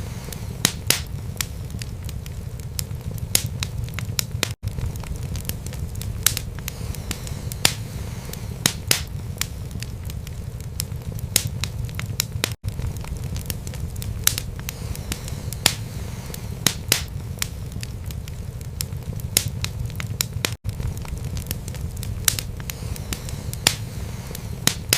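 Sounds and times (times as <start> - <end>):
low rumble of burning logs: 0.0 - 24.9
wood fire crackling: 0.0 - 24.9.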